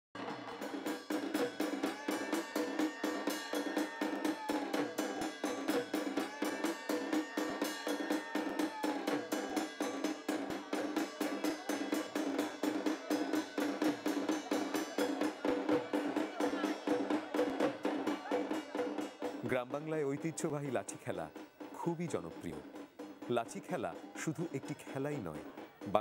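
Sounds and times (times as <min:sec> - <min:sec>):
fast drumming: 0:00.2 - 0:26.0.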